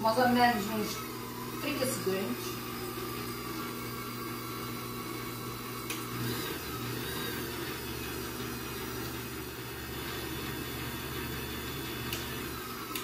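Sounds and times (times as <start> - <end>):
electric stand mixer running: 0.0 - 13.0.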